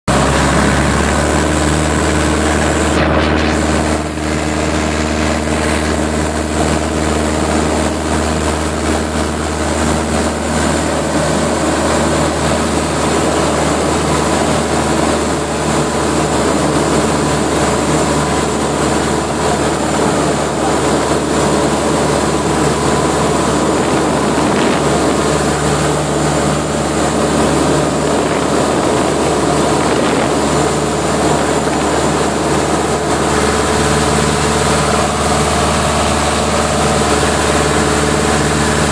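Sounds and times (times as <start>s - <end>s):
aircraft engine drone: 0.1s - 38.9s.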